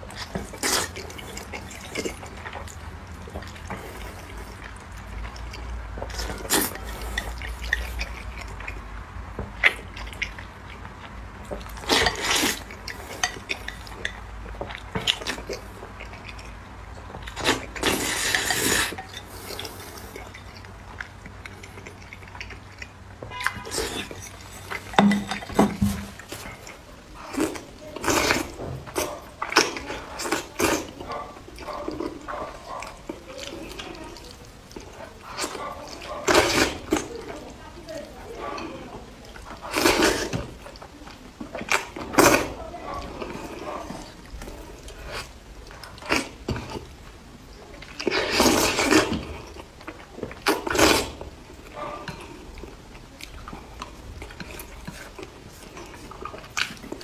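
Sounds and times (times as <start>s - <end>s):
slurping and chewing noodles: 0.0s - 57.0s.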